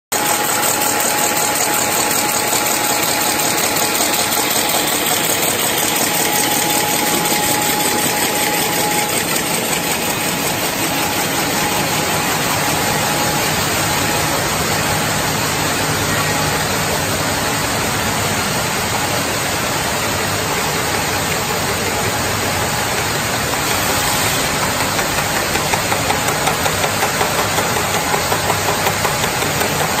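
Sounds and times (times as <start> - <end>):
rapid mechanical clatter: 0.1 - 30.0.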